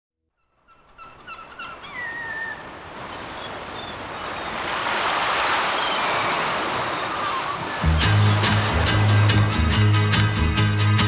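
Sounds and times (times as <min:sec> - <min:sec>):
bird calls: 0:00.3 - 0:09.5
surf: 0:01.7 - 0:11.0.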